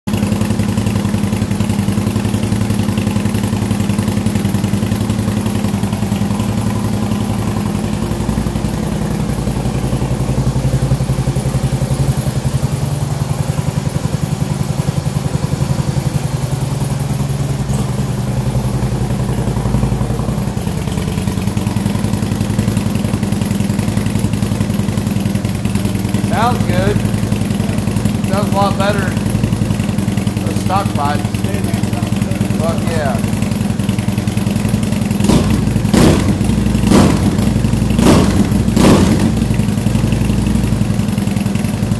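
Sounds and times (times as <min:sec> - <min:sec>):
motorcycle idling: 0:00.1 - 0:41.9.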